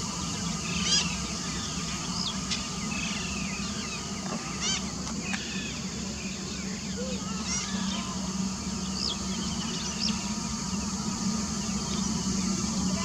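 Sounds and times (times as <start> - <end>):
steady low hum: 0.0 - 13.0
birds chirping and whistling: 0.5 - 12.7.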